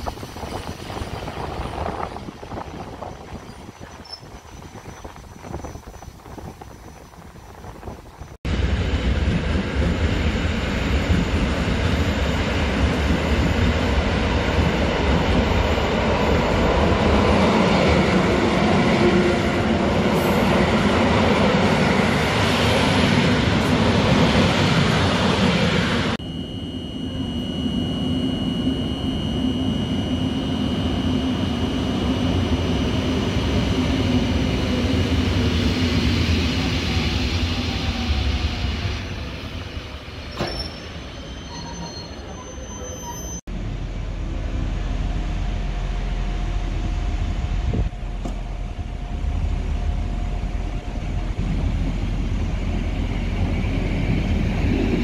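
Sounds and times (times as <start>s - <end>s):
train wheels rumbling on rail: 0.0s - 26.2s, 30.9s - 55.0s
train moving off with whine: 0.0s - 55.0s.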